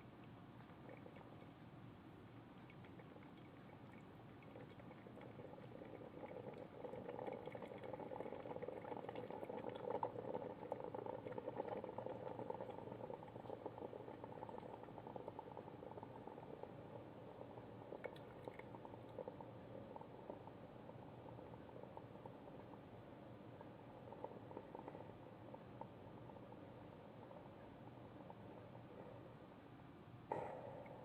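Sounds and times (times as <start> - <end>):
coffee maker water bubbling: 0.0 - 29.6, 30.3 - 31.0.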